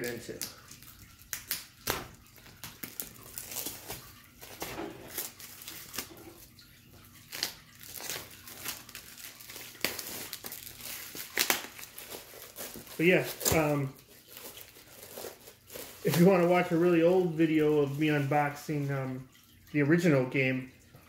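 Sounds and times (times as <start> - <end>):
plastic wrap crinkling and tearing: 0.0 - 18.9.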